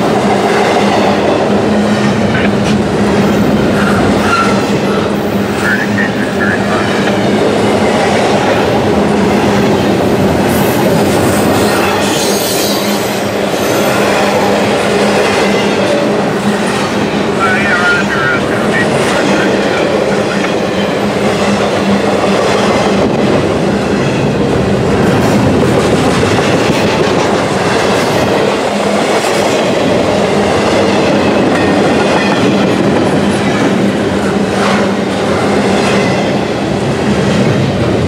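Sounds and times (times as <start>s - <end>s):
freight train rolling by: 0.0s - 38.0s.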